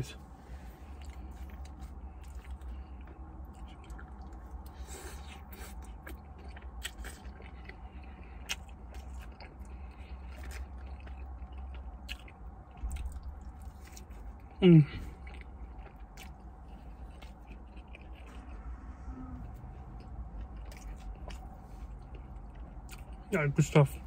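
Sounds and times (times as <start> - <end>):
steady low hum: 0.0 - 24.0
man chewing food: 0.8 - 24.0.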